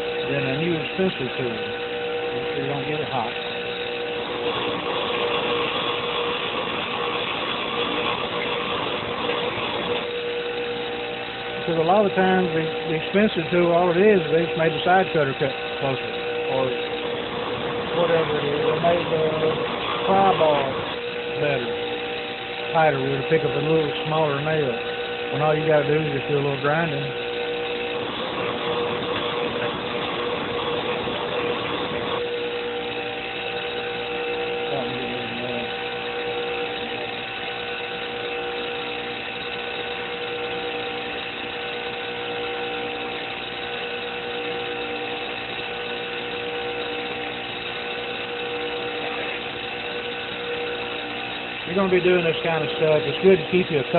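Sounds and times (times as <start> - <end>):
electric grinder humming: 0.0 - 53.9
steel grinding against wheel: 0.0 - 53.9.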